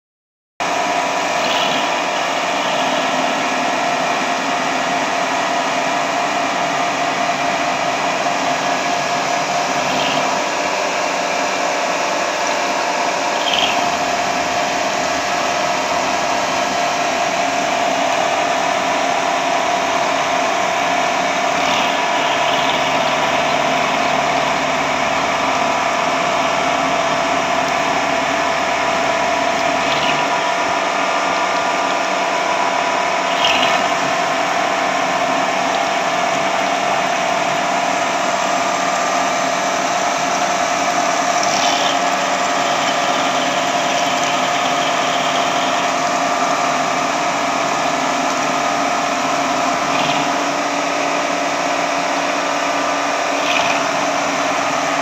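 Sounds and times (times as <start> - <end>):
milling spindle whine: 0.6 - 55.0.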